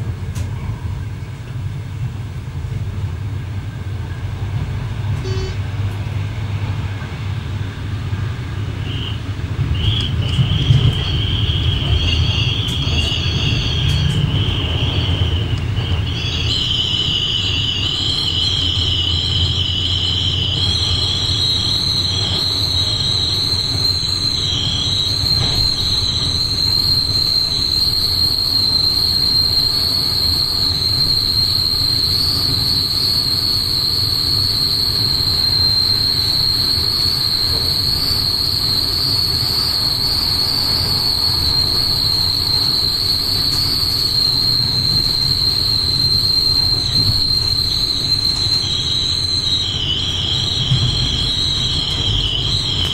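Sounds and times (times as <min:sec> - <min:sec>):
train running gear rumble: 0:00.0 - 0:52.9.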